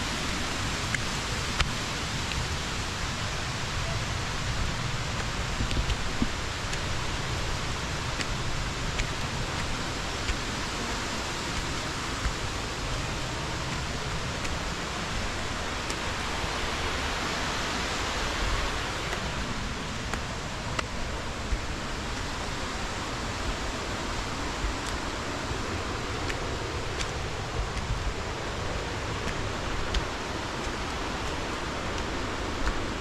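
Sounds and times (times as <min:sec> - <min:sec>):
waterfall rushing into pool: 0:00.0 - 0:33.0.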